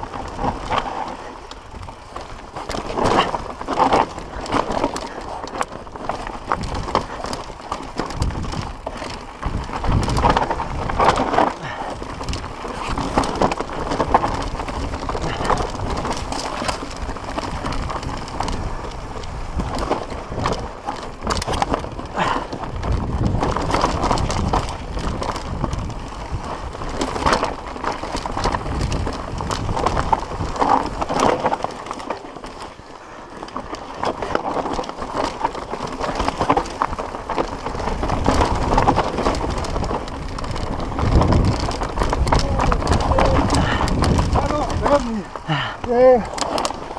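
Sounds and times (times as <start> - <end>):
bike frame and chain rattling: 0.0 - 46.9
bike tyres crunching over stones: 0.0 - 46.9.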